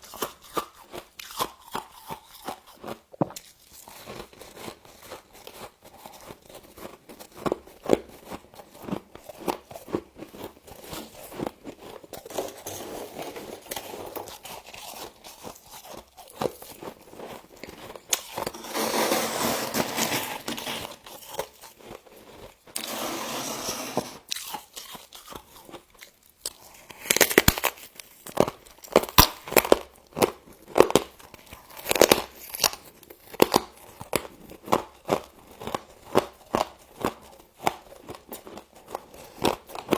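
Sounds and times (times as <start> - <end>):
crunching and chewing frost: 0.0 - 23.0, 24.2 - 39.9.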